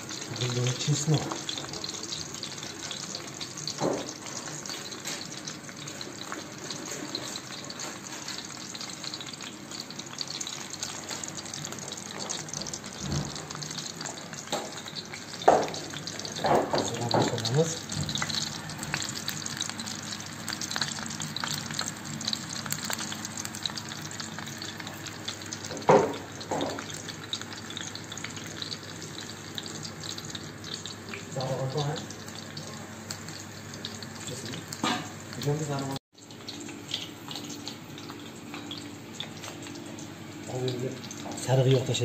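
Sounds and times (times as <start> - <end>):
oil sizzling and crackling: 0.0 - 42.0.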